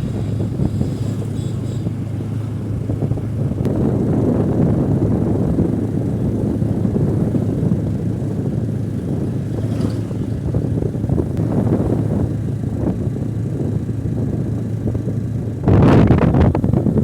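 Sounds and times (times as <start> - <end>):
motorcycle engine hum: 0.0 - 17.0
wind and road noise: 0.0 - 17.0.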